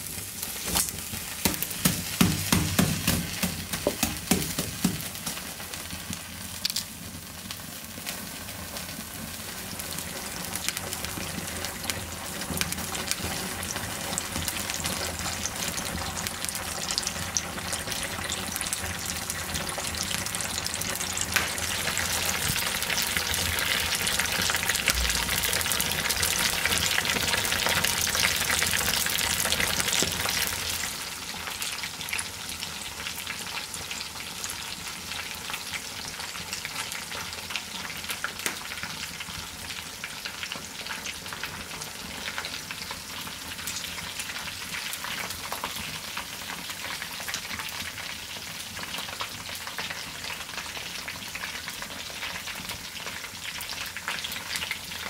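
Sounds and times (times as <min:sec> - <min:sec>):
chicken frying in bubbling lard: 0:00.0 - 0:55.0.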